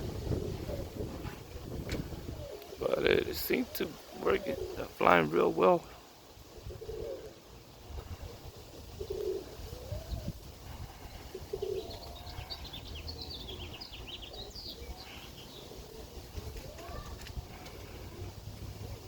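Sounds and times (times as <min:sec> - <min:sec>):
wind rumbling on microphone: 0:00.0 - 0:04.9, 0:06.3 - 0:19.0
pigeons cooing: 0:00.0 - 0:19.0
small birds chirping: 0:00.0 - 0:19.0.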